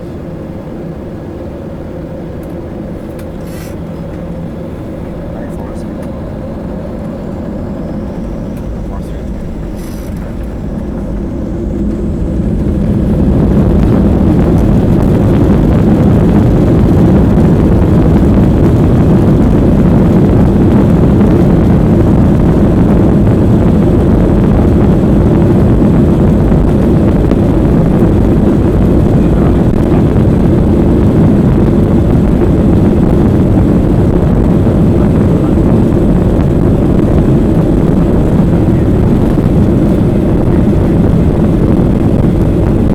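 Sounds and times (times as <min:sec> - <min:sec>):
jet engines spooling up: 0:00.0 - 0:42.9.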